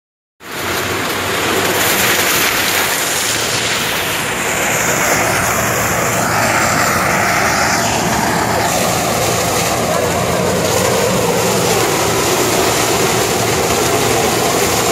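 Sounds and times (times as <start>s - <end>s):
harvester mechanical drone: 0.5s - 14.9s.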